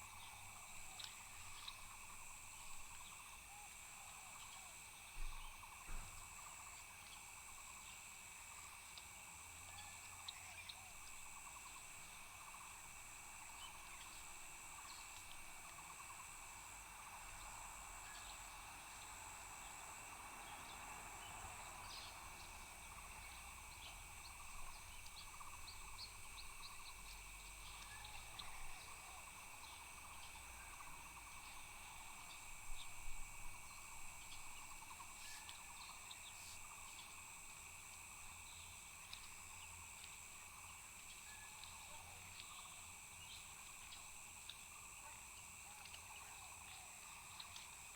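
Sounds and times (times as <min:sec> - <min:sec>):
insects trilling: 0:00.0 - 0:47.9.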